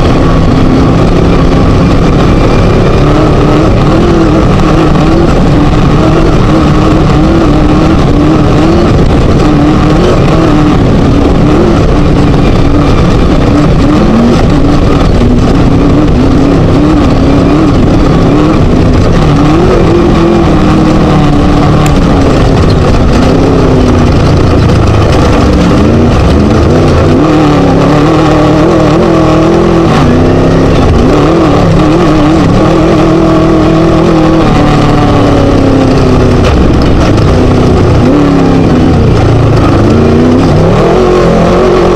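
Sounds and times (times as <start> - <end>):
loud steady rushing noise: 0.0 - 41.9
race buggy engine revving: 0.0 - 41.9.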